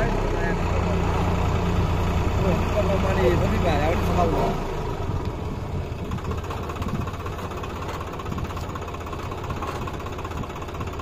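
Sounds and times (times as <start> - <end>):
tractor diesel engines running: 0.0 - 11.0.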